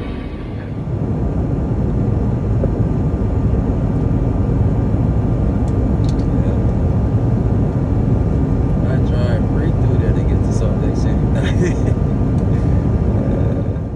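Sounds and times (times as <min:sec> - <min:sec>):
vehicle rumble from inside cabin: 0:00.0 - 0:13.9.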